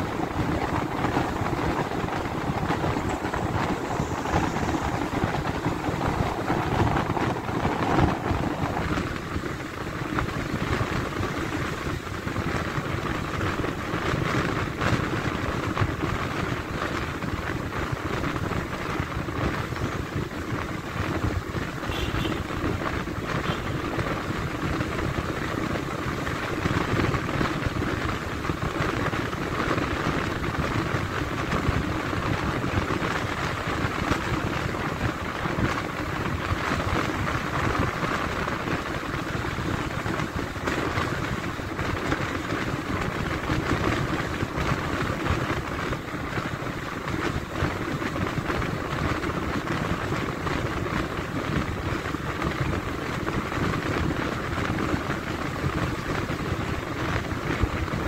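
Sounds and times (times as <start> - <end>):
vehicle road and wind noise: 0.0 - 58.0.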